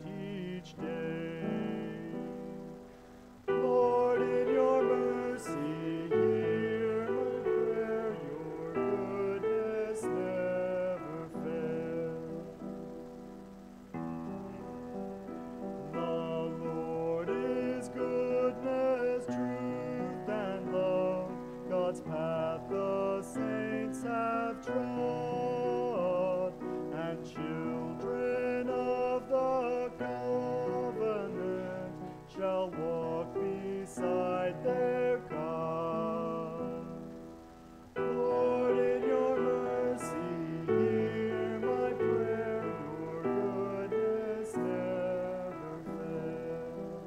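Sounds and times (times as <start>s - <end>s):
man singing a liturgical chant: 0.0s - 2.9s, 3.5s - 12.9s, 15.8s - 37.4s, 38.0s - 47.0s.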